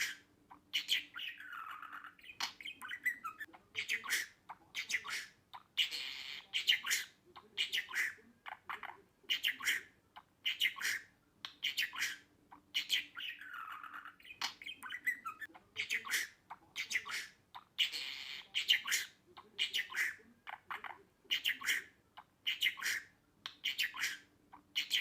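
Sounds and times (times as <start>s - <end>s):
budgerigar chattering: 0.0s - 25.0s.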